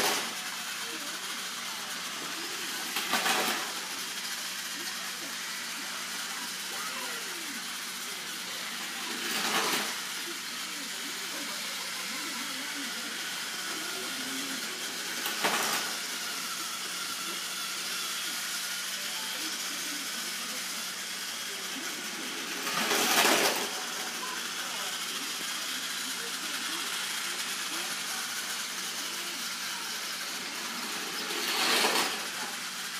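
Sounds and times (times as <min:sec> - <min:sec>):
steam locomotive hissing: 0:00.0 - 0:32.9.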